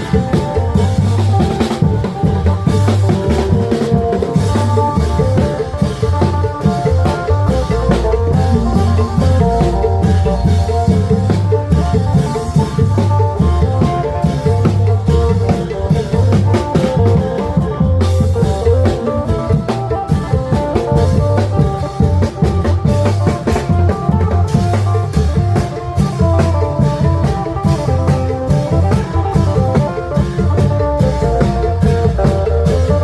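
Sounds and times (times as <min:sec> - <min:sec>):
long drums and percussion: 0:00.0 - 0:33.0.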